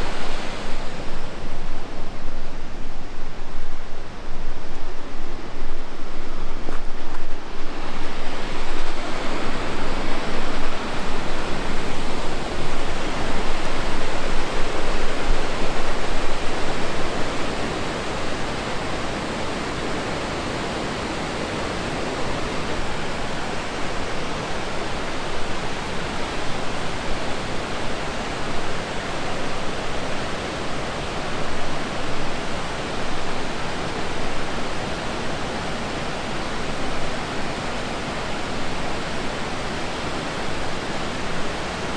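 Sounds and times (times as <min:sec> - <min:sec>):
waterfall rushing water: 0:00.0 - 0:41.9.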